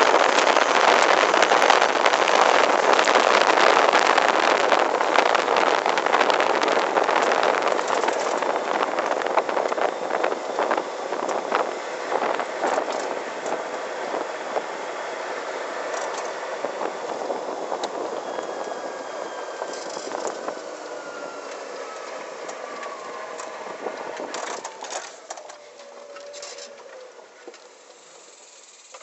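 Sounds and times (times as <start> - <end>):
electric motor whine: 0.0 - 28.6
wind and tyre noise: 0.0 - 29.0.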